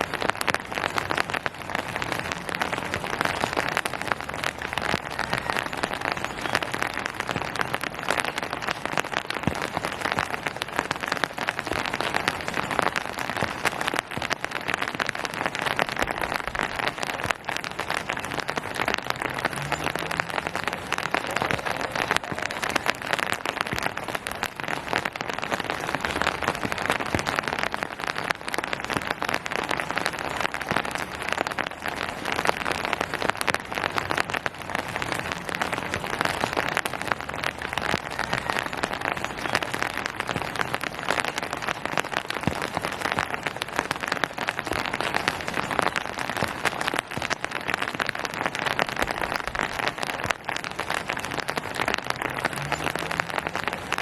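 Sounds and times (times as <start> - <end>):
rain pattering on surfaces and foliage: 0.0 - 54.0.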